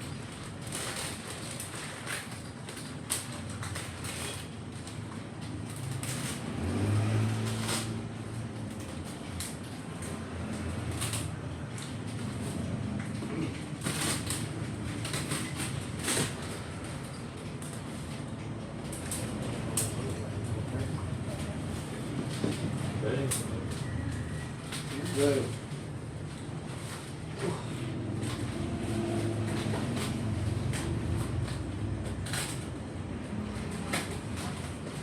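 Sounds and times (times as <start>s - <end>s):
room noise: 0.0s - 35.0s.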